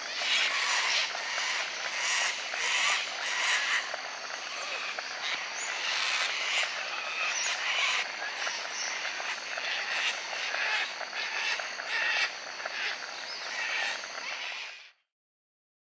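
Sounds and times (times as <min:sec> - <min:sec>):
cockatoos screeching: 0:00.0 - 0:14.8.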